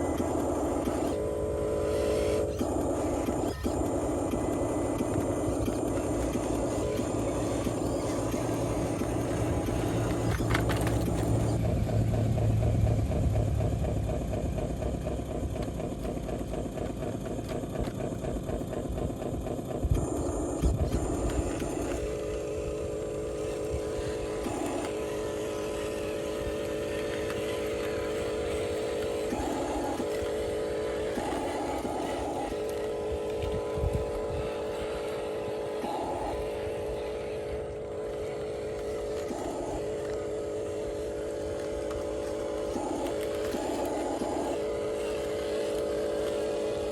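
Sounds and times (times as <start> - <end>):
model motor droning hum: 0.0 - 46.9.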